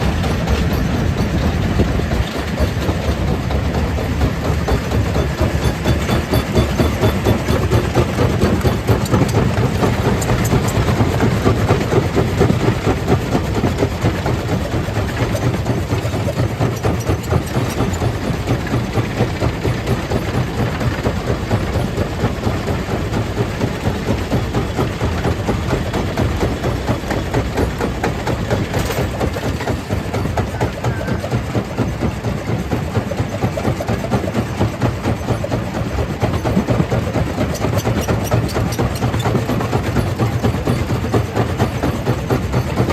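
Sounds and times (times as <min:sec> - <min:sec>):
stone crusher machine rattling: 0:00.0 - 0:42.9.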